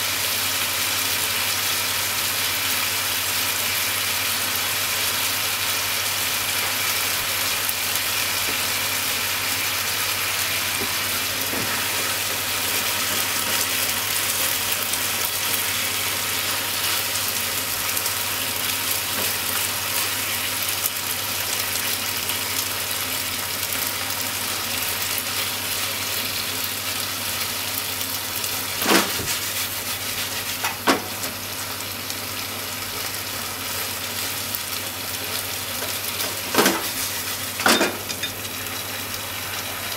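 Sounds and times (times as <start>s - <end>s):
meat and onions sizzling in a pan: 0.0s - 39.9s.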